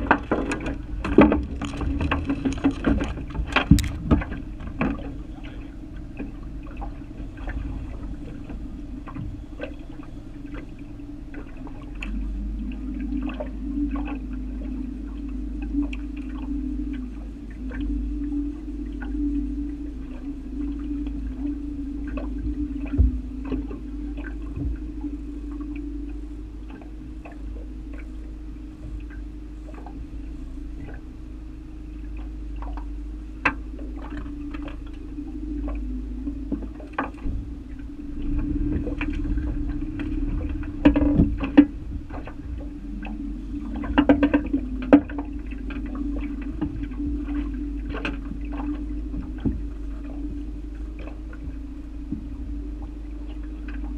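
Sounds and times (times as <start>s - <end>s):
boat motor running: 0.0s - 53.9s
water slapping metal hull: 0.0s - 53.9s.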